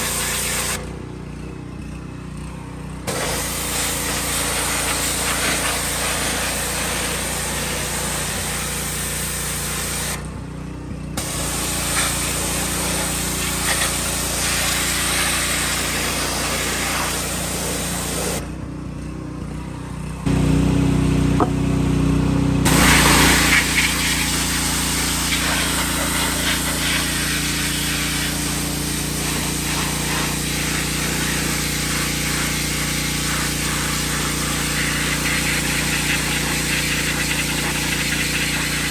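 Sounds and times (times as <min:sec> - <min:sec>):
pressure washer spraying water: 0:00.0 - 0:00.9, 0:03.1 - 0:10.3, 0:11.2 - 0:18.5, 0:20.3 - 0:38.9
pressure washer motor running: 0:00.0 - 0:38.9.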